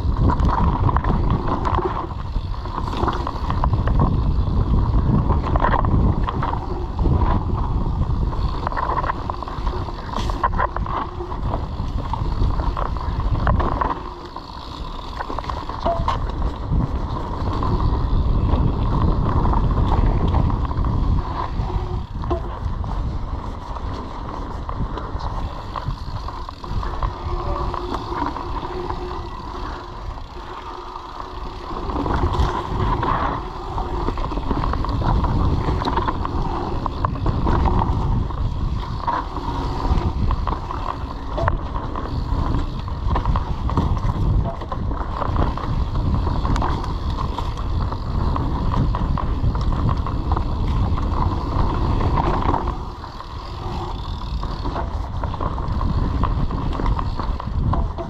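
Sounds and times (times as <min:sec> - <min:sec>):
bike rattling over bumps: 0:00.0 - 0:58.0
tyres rolling on dirt trail: 0:00.0 - 0:58.0
wind buffeting microphone: 0:00.0 - 0:58.0.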